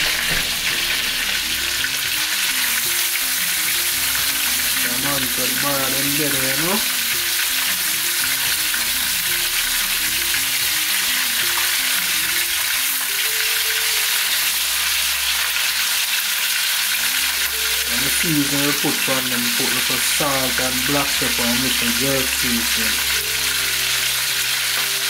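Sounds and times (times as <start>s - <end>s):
background music: 0.0s - 25.0s
fish sizzling in hot oil: 0.0s - 25.0s.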